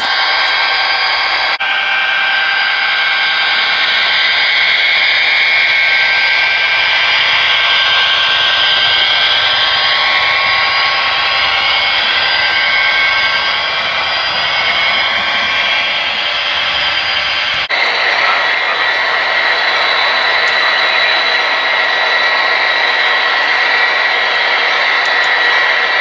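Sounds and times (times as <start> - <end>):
gliding whines: 0.0 - 26.0
model train wheels rushing on track: 0.0 - 26.0.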